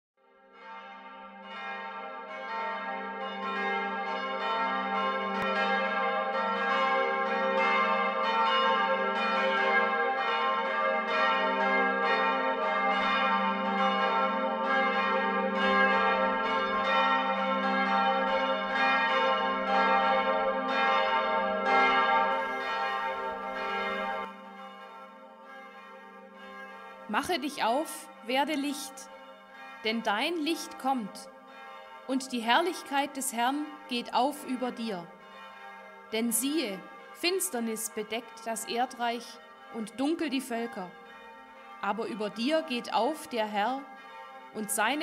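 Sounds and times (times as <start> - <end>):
church bells pealing: 0.4 - 45.0.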